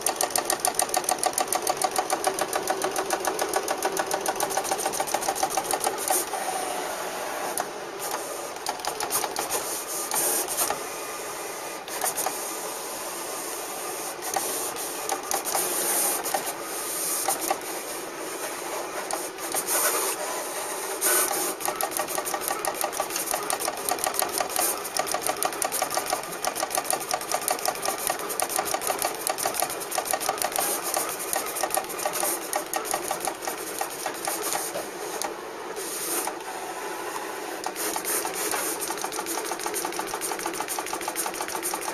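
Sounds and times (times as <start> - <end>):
cutting plotter rattling: 0.0 - 10.8, 14.2 - 35.3, 37.6 - 41.9.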